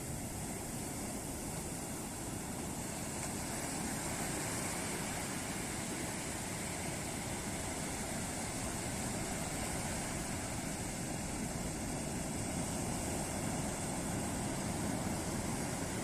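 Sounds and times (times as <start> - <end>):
ocean surf washing onto beach: 0.0 - 16.0.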